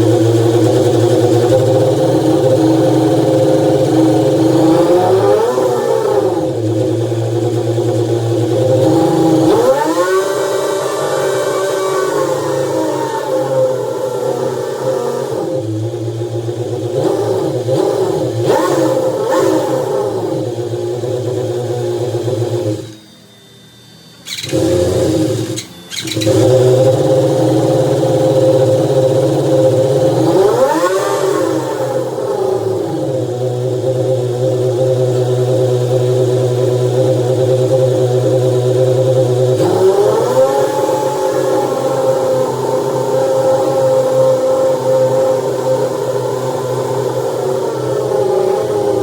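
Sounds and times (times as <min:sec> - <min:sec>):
motorcycle engine revving: 0:00.0 - 0:23.2, 0:24.2 - 0:49.0.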